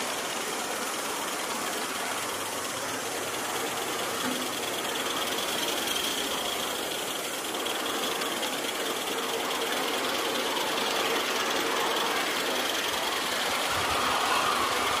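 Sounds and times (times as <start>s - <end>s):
hiss of steam: 0.0s - 15.0s
wheels rolling on rails: 0.0s - 15.0s.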